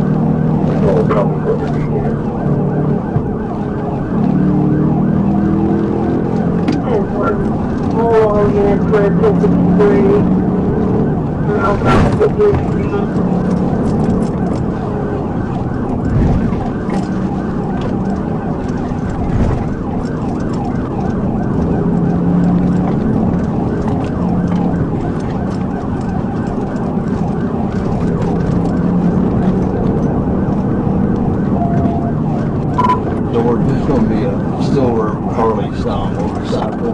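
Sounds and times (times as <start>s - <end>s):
car engine and road rumble: 0.0s - 36.9s
police siren yelping: 0.0s - 36.9s.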